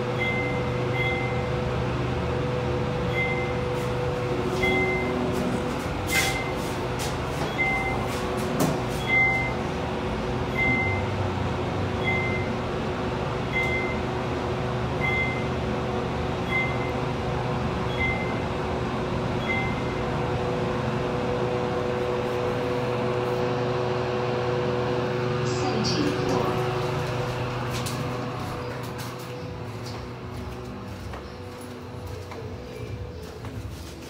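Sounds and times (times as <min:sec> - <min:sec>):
elevator hum: 0:00.0 - 0:34.0.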